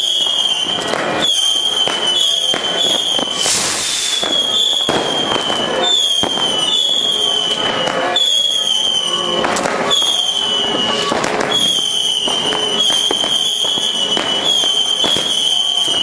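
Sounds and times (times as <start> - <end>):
fireworks banging and crackling: 0.0 - 16.0
high firework whistle: 0.0 - 16.0.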